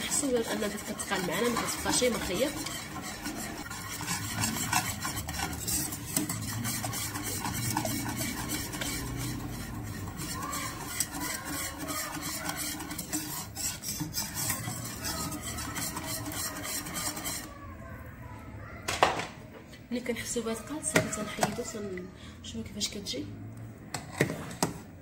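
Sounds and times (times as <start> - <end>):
metal spoon stirring in a pot: 0.0 - 17.6, 20.3 - 22.0, 23.9 - 25.0.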